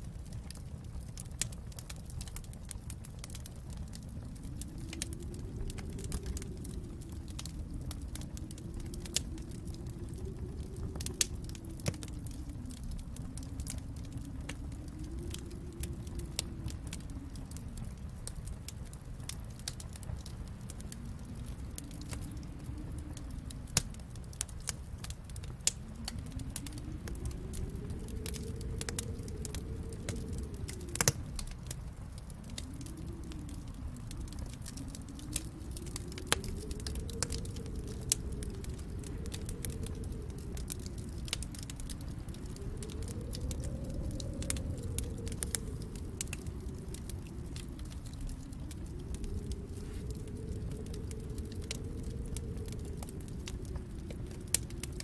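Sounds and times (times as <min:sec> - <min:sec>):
low rumble: 0:00.0 - 0:55.0
wood fire crackling: 0:00.0 - 0:55.0.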